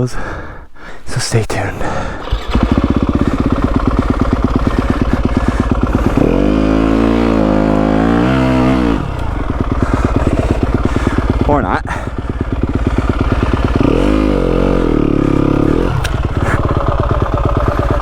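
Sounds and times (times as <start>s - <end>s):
motorcycle engine revving: 2.2s - 18.0s.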